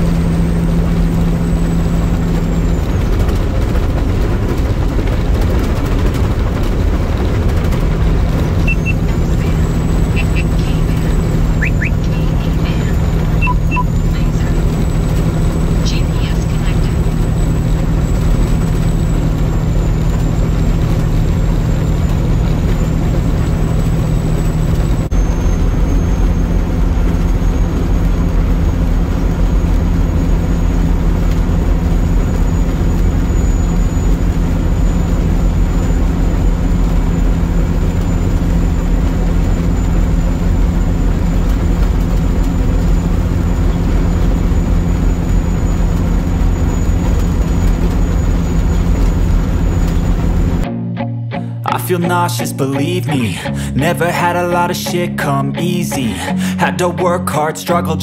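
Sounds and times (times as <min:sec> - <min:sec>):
road and wind noise: 0:00.0 - 0:52.6
truck diesel engine droning: 0:00.0 - 0:58.0.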